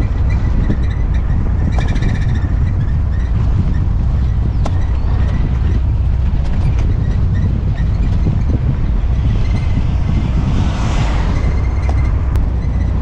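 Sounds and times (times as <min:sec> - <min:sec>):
road and wind noise: 0:00.0 - 0:13.0
vehicle rumble: 0:00.0 - 0:13.0.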